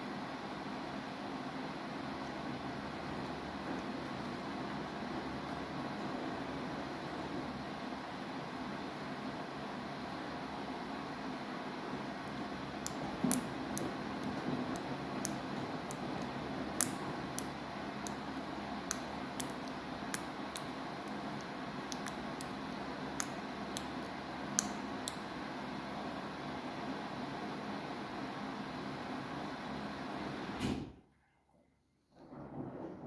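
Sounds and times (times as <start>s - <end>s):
washing machine running: 0.0s - 30.7s.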